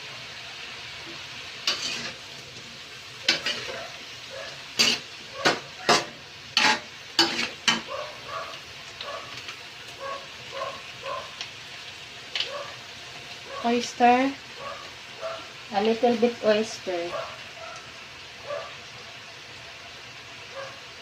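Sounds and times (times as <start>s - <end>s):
shrimp sizzling in a pan: 0.0s - 21.0s.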